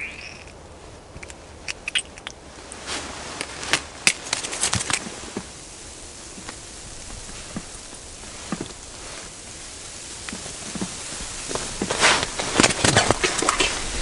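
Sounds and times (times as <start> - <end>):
clothing rustling: 2.5 - 14.0.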